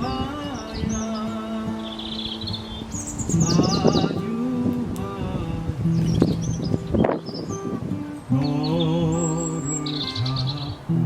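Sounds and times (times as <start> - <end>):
high birdlike chirps: 0.0 - 4.3, 5.8 - 10.8.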